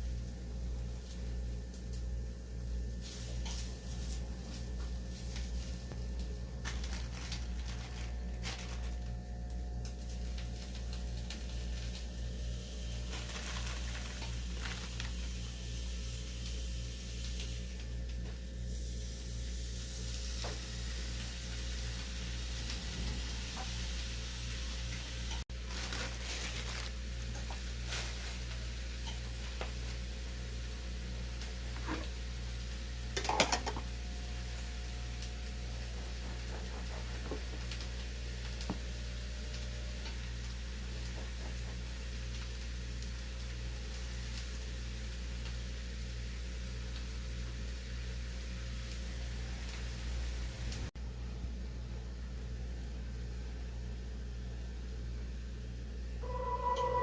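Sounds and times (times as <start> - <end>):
food sizzling in a pan: 0.0 - 51.0, 56.2 - 57.0
steady low hum: 0.0 - 57.0.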